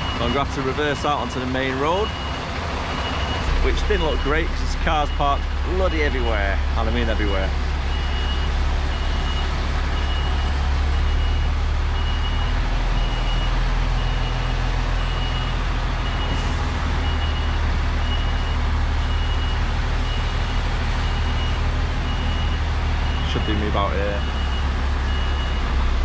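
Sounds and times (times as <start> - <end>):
lorry diesel engine drone: 0.0 - 26.0
reversing alarm beeping: 0.0 - 26.0.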